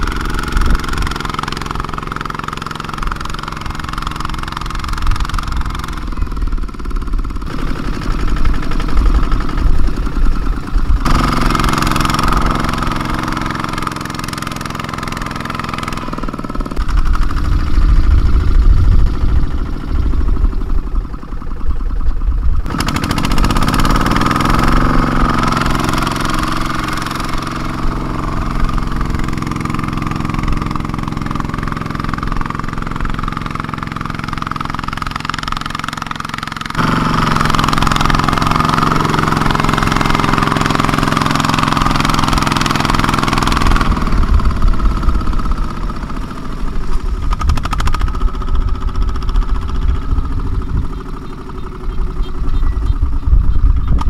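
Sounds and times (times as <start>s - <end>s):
diesel tractor engine revving: 0.0s - 54.0s.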